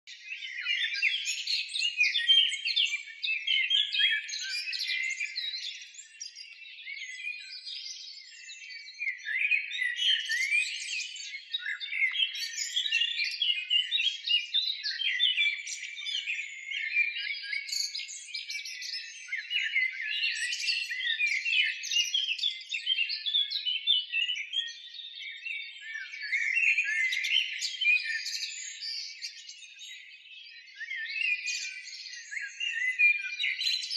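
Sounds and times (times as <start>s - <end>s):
small birds chirping and twittering: 0.0s - 33.9s.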